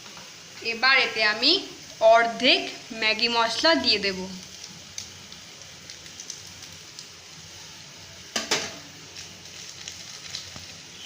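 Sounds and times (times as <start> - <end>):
noodles simmering in a pan: 0.0 - 11.0.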